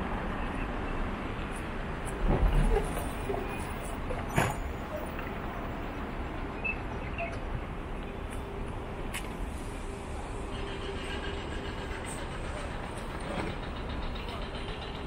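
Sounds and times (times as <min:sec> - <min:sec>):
distant street traffic: 0:00.0 - 0:15.0.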